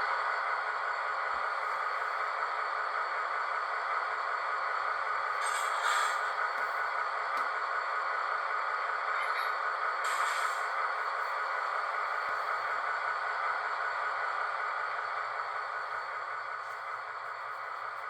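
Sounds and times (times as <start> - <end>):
model locomotive engine sound: 0.0 - 18.0.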